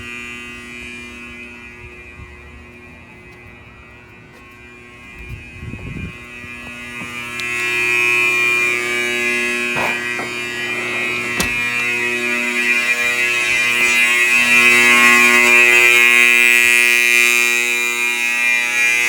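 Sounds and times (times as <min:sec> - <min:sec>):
fire alarm horns buzzing: 0:00.0 - 0:19.0.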